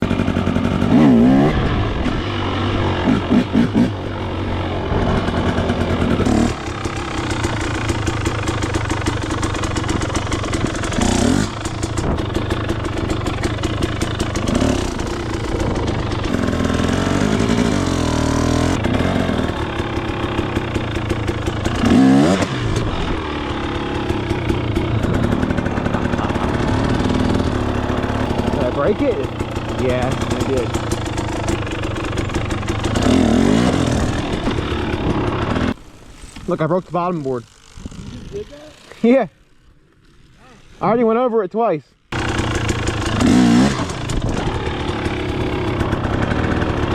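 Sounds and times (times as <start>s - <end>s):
dirt bike engine running: 0.0s - 41.3s, 42.1s - 46.9s.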